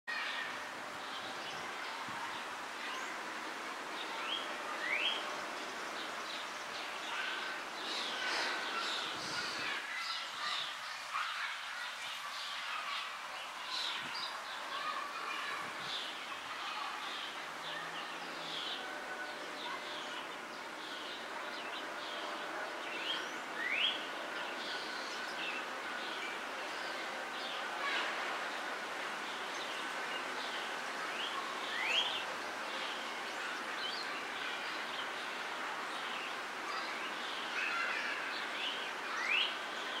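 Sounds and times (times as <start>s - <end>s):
background hiss: 0.1s - 40.0s.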